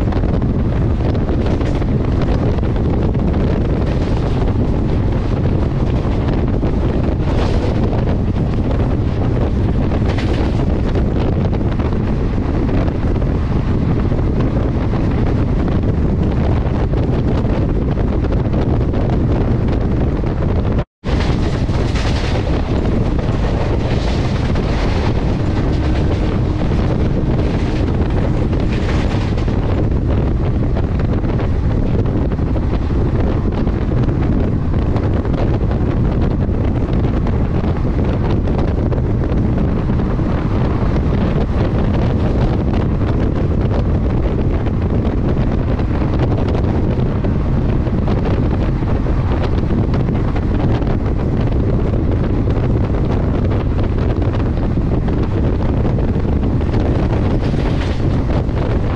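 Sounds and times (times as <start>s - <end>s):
moving train rumble: 0.0s - 58.9s
wind buffeting microphone: 0.0s - 58.9s.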